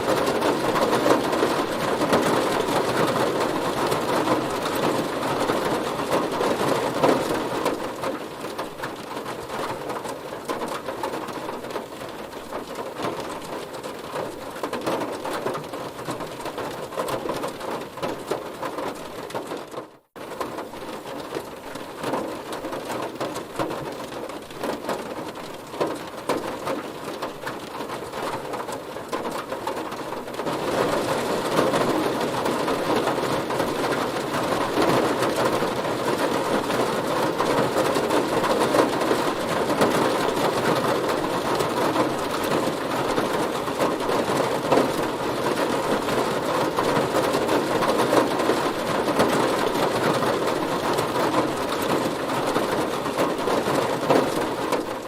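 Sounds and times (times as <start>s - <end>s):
heavy rain hitting a car: 0.0s - 55.0s.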